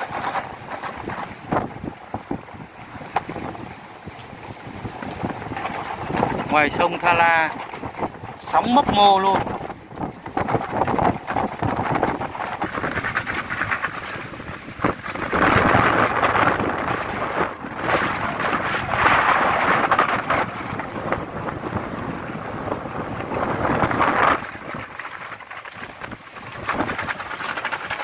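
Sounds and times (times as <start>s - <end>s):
wind gusting across microphone: 0.0s - 28.0s.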